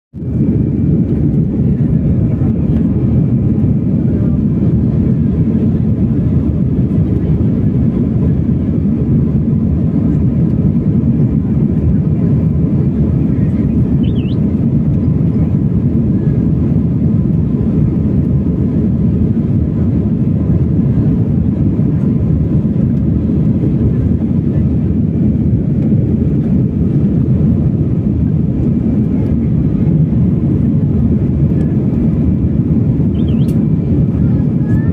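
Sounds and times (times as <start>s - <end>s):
airliner cabin engine rumble: 0.2s - 34.9s.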